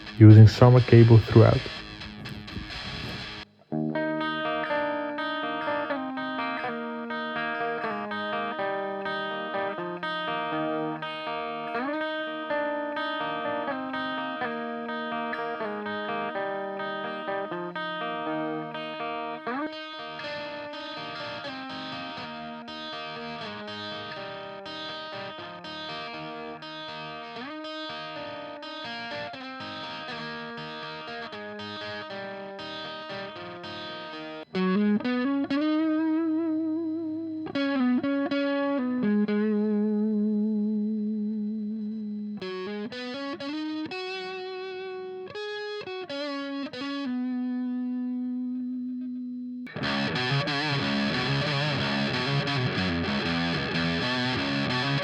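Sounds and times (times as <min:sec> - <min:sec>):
electric guitar playing: 0:00.0 - 0:55.0.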